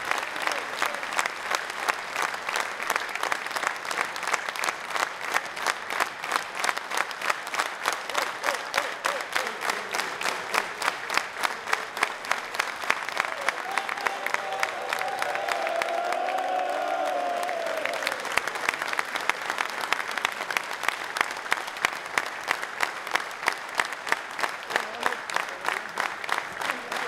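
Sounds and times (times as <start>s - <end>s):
audience clapping in rhythm: 0.0s - 27.0s.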